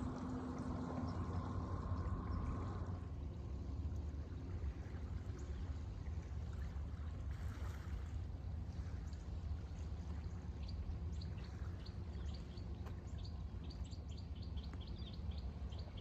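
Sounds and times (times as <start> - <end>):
faint hum: 0.0 - 16.0
low rumble: 0.0 - 16.0.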